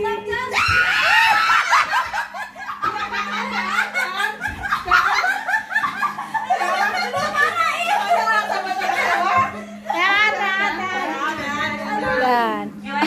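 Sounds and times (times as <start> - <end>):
group of people laughing: 0.6 - 11.4.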